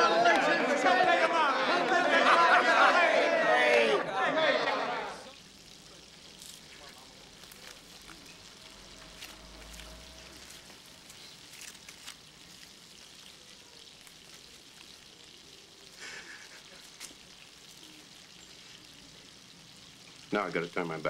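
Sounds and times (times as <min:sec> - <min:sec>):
faint crackling hiss: 0:00.0 - 0:21.0.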